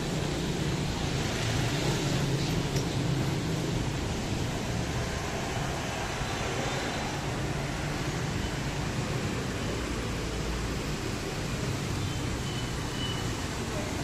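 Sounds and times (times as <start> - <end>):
rain falling: 0.0 - 14.0
street traffic: 0.0 - 14.0.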